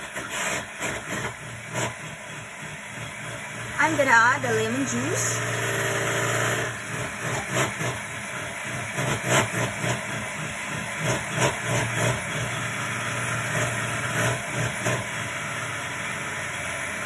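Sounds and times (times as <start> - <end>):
electric hand mixer motor hum: 0.0 - 17.0.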